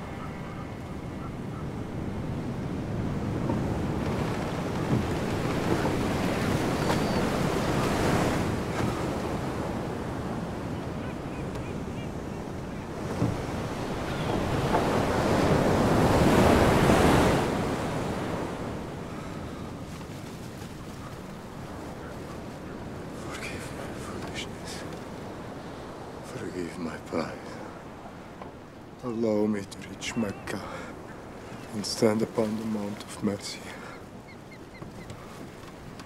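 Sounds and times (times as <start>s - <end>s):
wind blowing: 0.0s - 33.1s, 33.7s - 36.0s
waves breaking: 0.0s - 36.0s.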